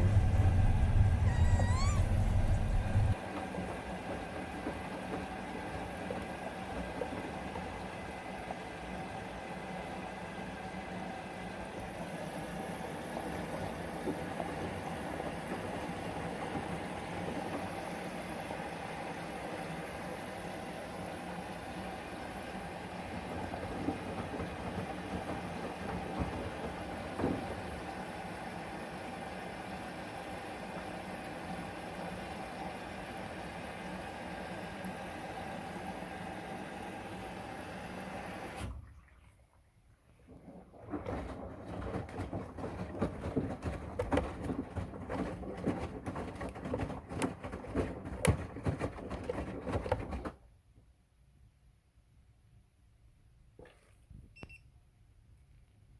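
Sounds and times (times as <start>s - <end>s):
washing machine humming: 0.0s - 38.8s, 40.3s - 50.4s.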